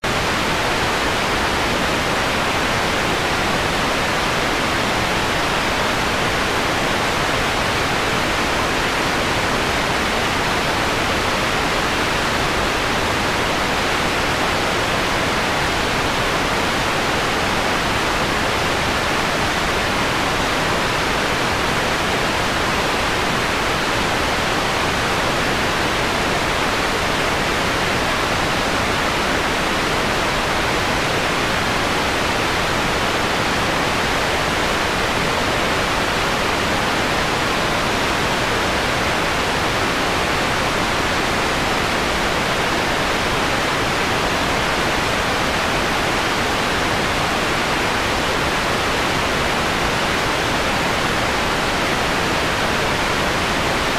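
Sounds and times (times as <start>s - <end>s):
white noise hiss: 0.0s - 53.9s.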